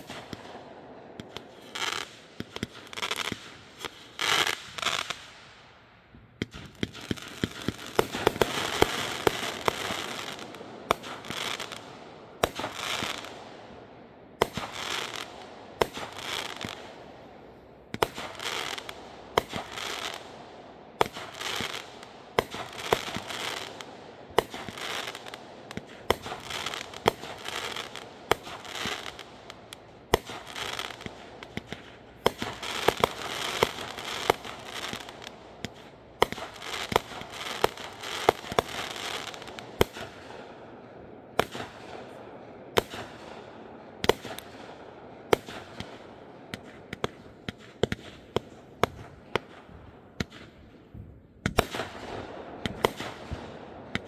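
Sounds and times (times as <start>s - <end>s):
fireworks bangs: 0.0s - 5.6s, 6.2s - 13.8s, 14.4s - 54.0s
fireworks hissing and crackling: 0.0s - 13.8s, 14.4s - 40.6s, 41.4s - 50.7s, 51.4s - 54.0s.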